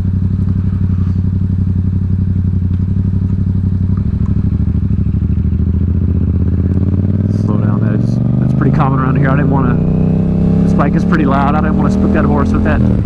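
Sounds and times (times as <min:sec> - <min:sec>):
motorcycle engine throbbing: 0:00.0 - 0:13.0.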